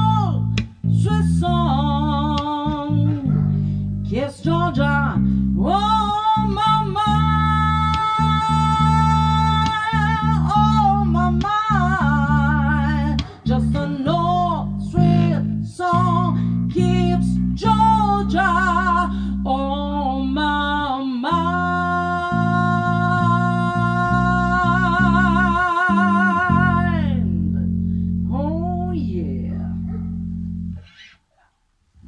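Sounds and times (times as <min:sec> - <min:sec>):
person singing with vibrato: 0:00.0 - 0:29.7
bass: 0:00.0 - 0:32.0
guitar: 0:00.0 - 0:32.0.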